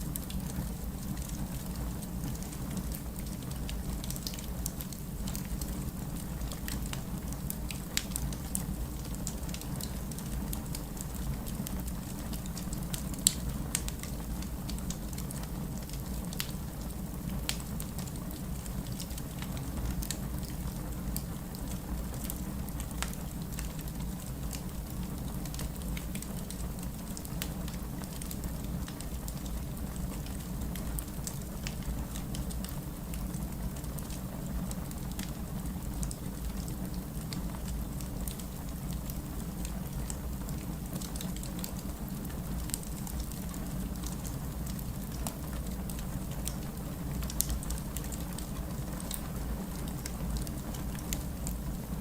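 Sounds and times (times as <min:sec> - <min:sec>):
steady rain: 0:00.0 - 0:52.0
wood fire crackling: 0:00.0 - 0:52.0.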